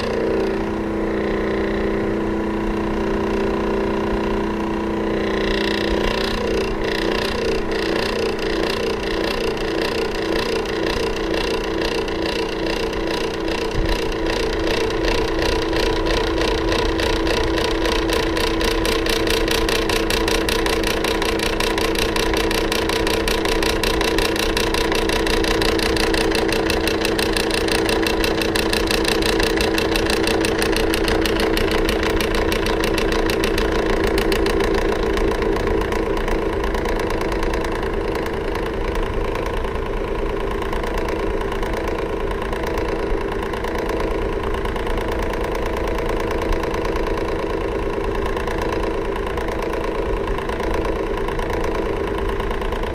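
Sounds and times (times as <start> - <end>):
electric fan running: 0.0 - 52.9.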